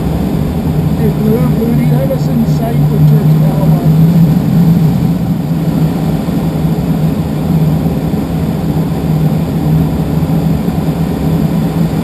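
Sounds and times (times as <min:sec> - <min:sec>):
rushing air: 0:00.0 - 0:12.0
small aircraft cockpit hum: 0:00.0 - 0:12.0.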